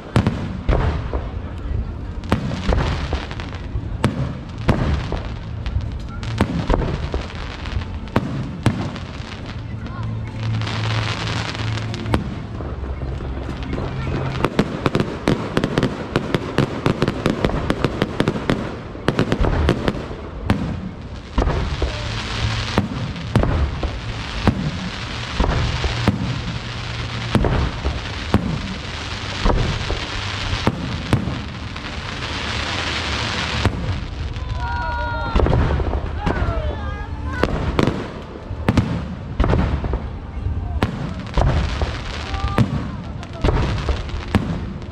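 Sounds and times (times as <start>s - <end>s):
firework crackle and hiss: 0.0s - 44.9s.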